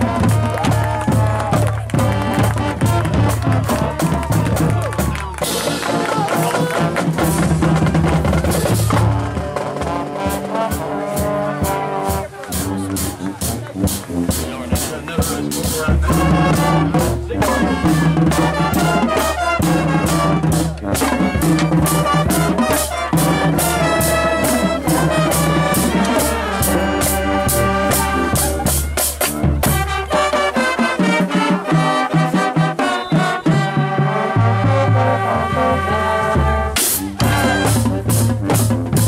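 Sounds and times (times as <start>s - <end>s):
drumline beat: 0.0s - 39.0s
marching band playing: 0.0s - 39.0s.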